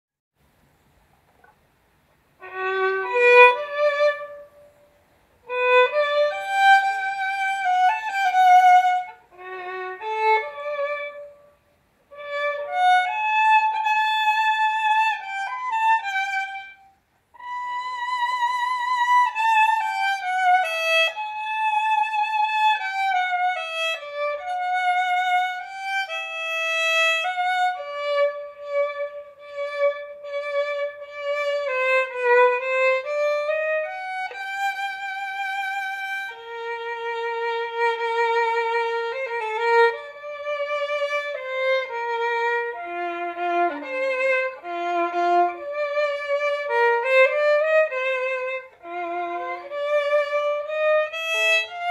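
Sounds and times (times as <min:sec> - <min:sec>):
solo violin melody: 0:02.3 - 0:51.9.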